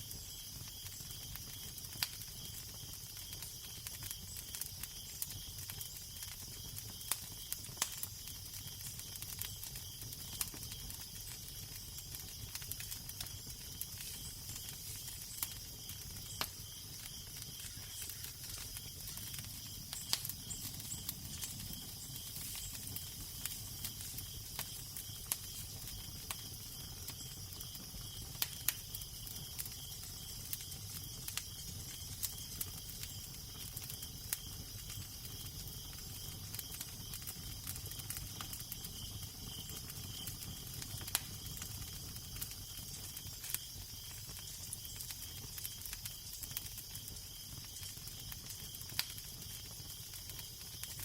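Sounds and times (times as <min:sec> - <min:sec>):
crackling fire with pops: 0:00.0 - 0:51.0.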